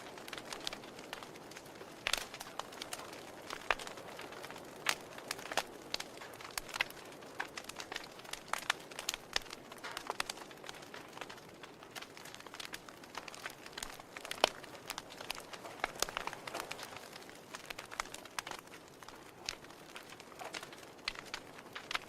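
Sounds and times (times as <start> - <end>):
logs crackling in fireplace: 0.0 - 22.0.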